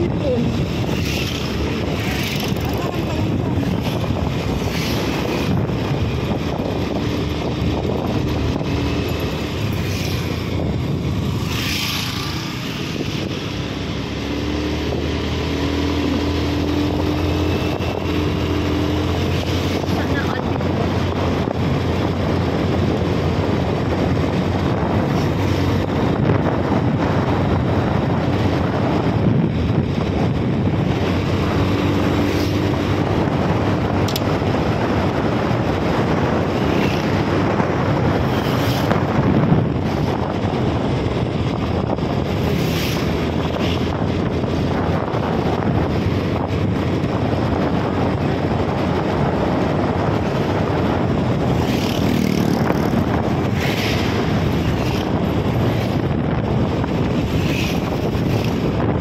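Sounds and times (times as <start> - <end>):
moving vehicle noise: 0.0 - 59.0
wind rushing over microphone: 0.0 - 59.0.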